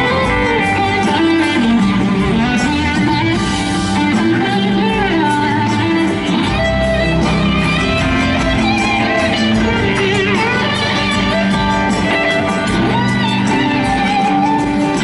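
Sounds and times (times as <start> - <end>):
bass guitar: 0.0 - 15.0
bending lead guitar line: 0.0 - 15.0
drums: 0.0 - 15.0
electric guitars: 0.0 - 15.0.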